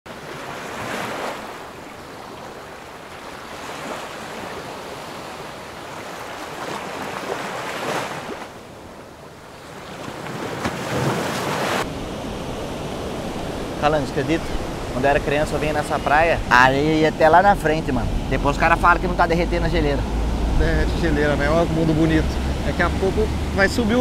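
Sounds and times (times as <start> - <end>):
waves breaking on beach: 0.1 - 24.0.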